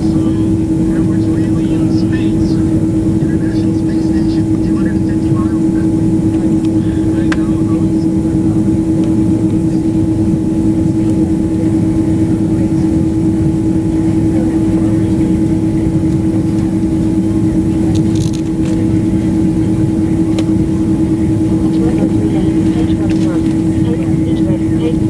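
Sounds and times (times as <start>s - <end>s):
airliner engine and airflow drone: 0.0s - 25.0s
constant low hum: 0.0s - 25.0s.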